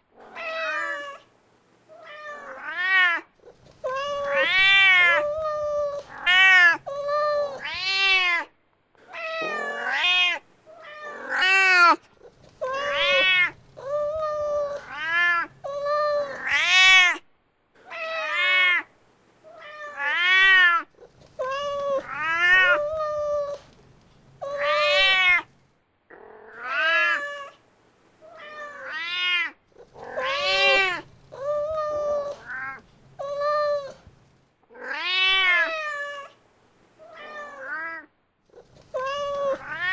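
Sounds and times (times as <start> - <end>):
cat meowing: 0.2 - 1.3, 1.9 - 8.5, 9.1 - 17.2, 17.8 - 18.9, 19.5 - 23.7, 24.4 - 25.5, 26.1 - 27.6, 28.3 - 34.1, 34.8 - 36.4, 37.0 - 39.9.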